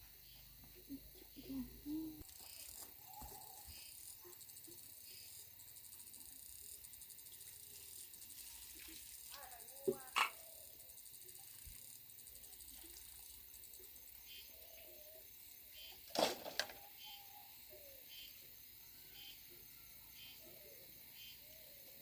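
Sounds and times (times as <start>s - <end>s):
background hum of insects: 0.0s - 22.0s
insects chirping: 0.0s - 22.0s.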